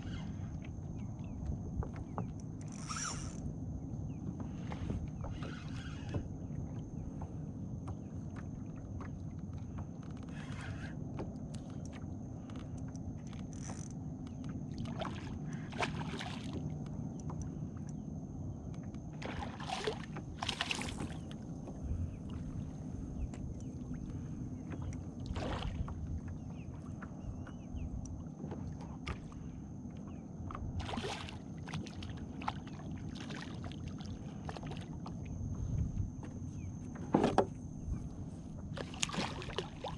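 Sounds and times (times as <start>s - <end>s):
water sloshing around boat: 0.0s - 39.9s.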